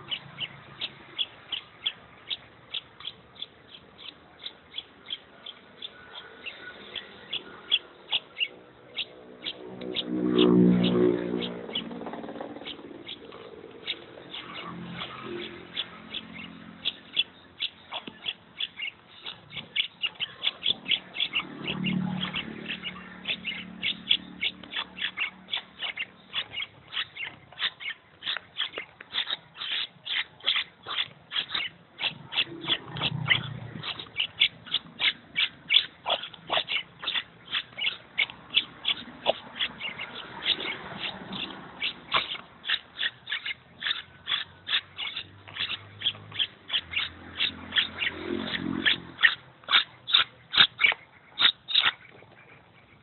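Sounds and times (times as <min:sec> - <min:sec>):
bird chicks chirping: 0:00.0 - 0:53.0.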